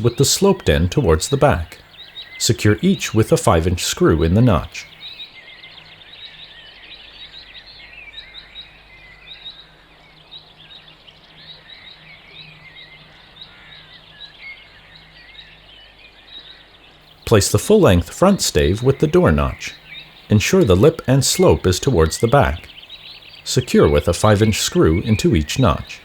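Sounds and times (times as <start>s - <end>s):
chirps and trills: 0.0s - 26.0s.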